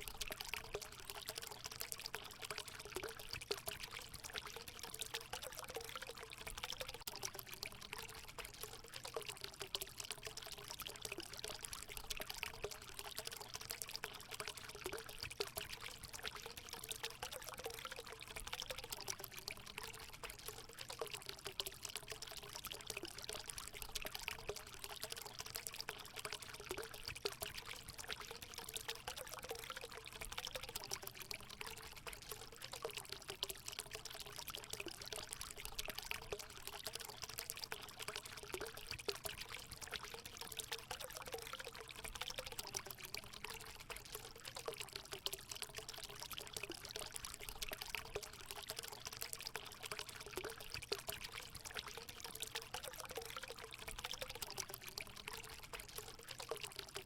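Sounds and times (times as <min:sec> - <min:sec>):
water pouring into pool: 0:00.0 - 0:57.0.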